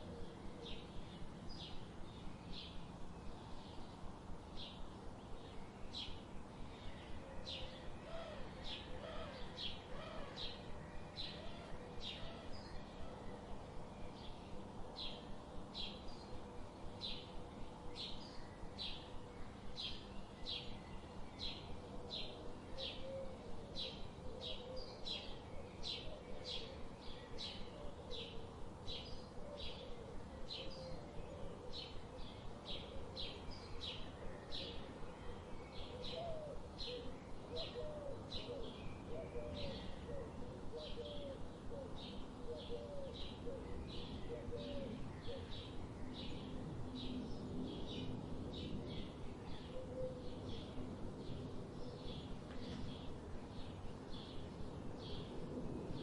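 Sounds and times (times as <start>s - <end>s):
background hiss: 0.0s - 56.0s
songbird chirping: 0.0s - 56.0s.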